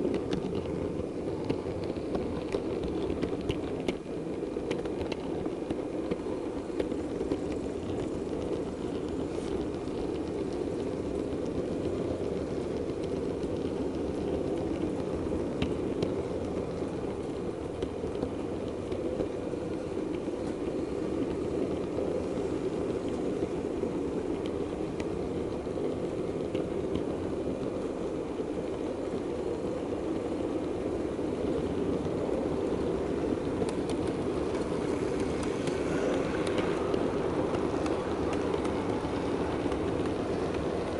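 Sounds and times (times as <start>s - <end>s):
model train rumbling on rails: 0.0s - 40.9s.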